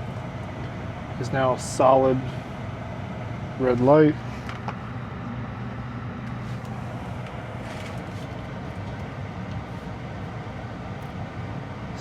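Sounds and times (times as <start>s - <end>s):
furnace blower motor humming: 0.0s - 12.0s.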